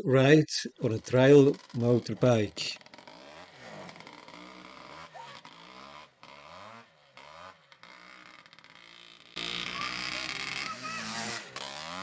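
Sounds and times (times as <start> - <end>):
motorbike engine revving: 0.7 - 12.0.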